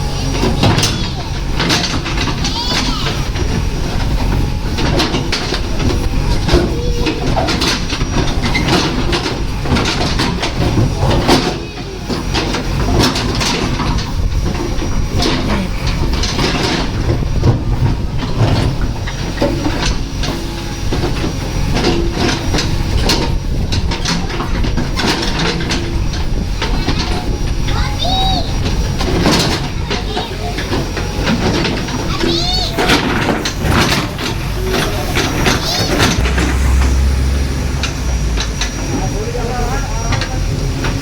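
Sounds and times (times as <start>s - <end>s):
diesel engine under load: 0.0s - 41.0s
metallic clanks and knocks: 0.2s - 27.3s, 28.6s - 41.0s.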